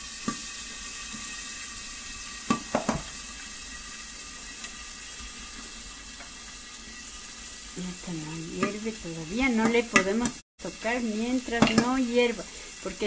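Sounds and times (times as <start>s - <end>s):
corn sizzling in hot fat: 0.0s - 13.0s.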